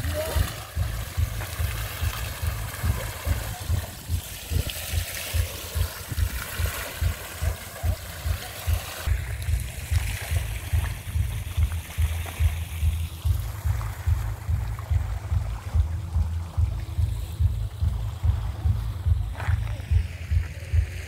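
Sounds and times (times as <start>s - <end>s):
fountain jets splashing: 0.0s - 21.0s
pulsing low rumble: 0.0s - 21.0s.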